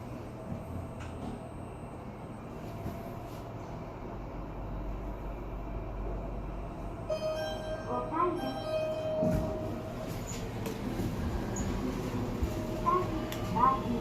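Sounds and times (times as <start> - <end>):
elevator hum and rumble: 0.0 - 14.0.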